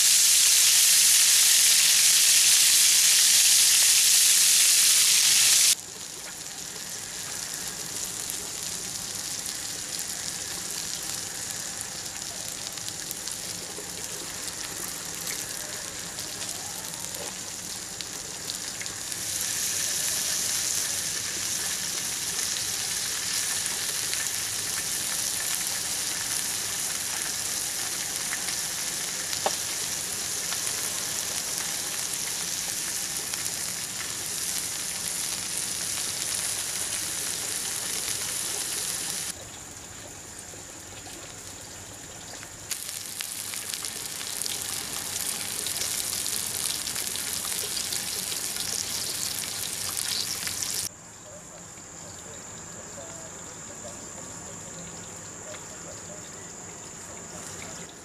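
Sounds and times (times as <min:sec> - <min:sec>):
meat sizzling in hot oil: 0:00.0 - 0:39.4, 0:41.8 - 0:50.9.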